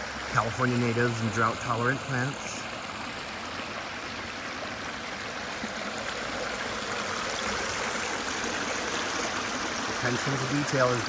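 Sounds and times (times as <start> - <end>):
water splashing over rocks: 0.0 - 11.0.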